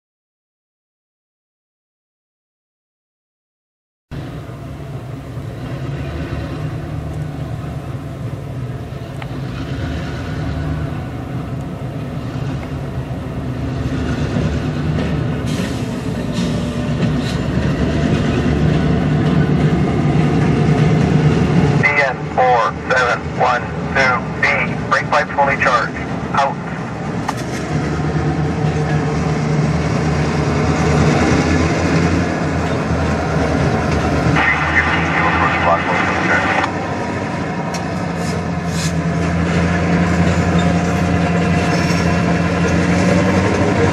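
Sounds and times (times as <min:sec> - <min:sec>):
diesel locomotive engines rumbling: 0:04.1 - 0:43.9.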